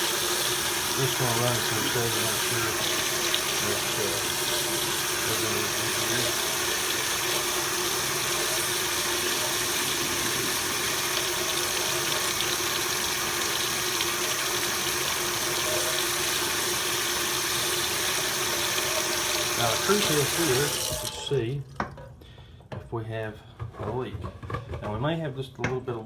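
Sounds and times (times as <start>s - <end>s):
faucet water running into sink: 0.0s - 22.0s.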